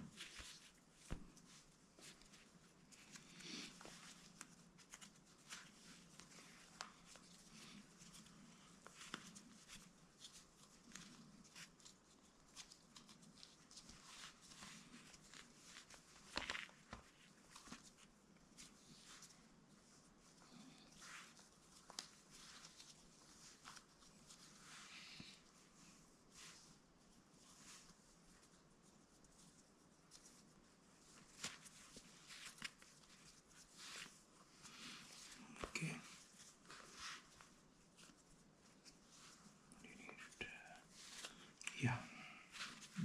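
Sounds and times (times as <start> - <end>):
lace rustling through sole: 0.0 - 43.0.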